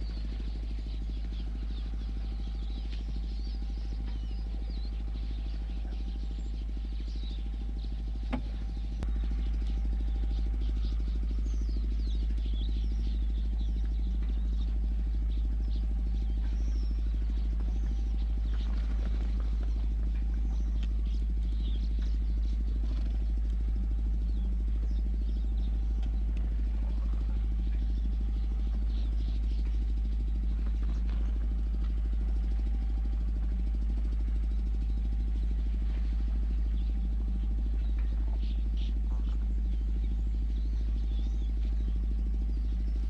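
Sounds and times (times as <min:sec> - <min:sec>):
faint high chirps and clicks: 0:00.0 - 0:43.0
vehicle engine idling: 0:00.0 - 0:43.0.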